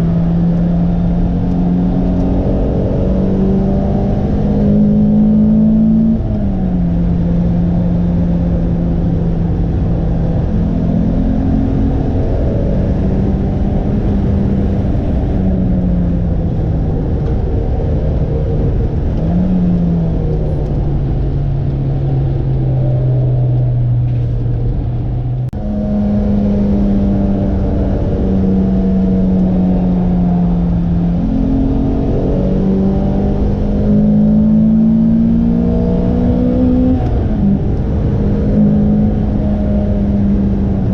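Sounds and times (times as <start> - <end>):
sports car engine under load: 0.0 - 40.9.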